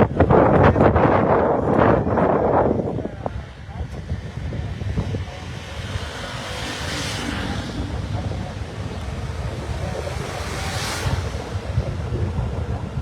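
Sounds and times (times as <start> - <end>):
wind rumbling on microphone: 0.0 - 13.0
vehicles passing: 1.7 - 13.0.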